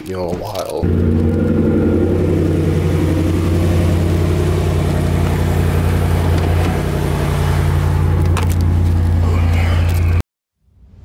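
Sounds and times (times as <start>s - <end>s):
car engine humming: 0.8s - 10.2s.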